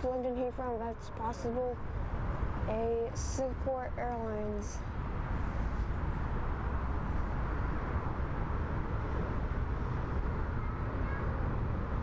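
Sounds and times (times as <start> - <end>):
aircraft noise rumble: 0.0 - 12.0.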